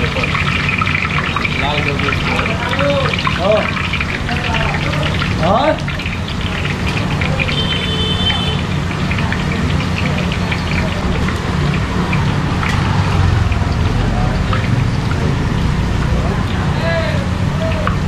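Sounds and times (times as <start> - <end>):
gas burner roar: 0.0 - 18.0
oil sizzling and crackling: 0.0 - 18.0.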